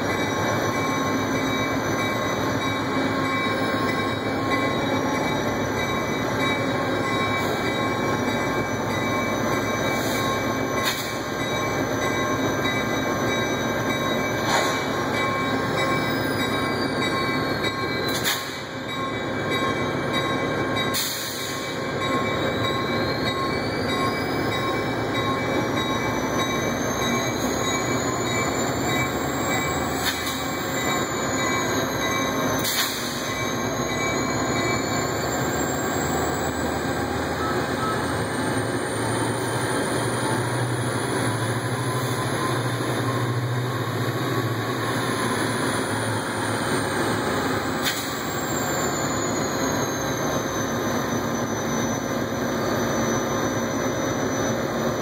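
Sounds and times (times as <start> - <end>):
diesel locomotive idling: 0.0 - 55.0.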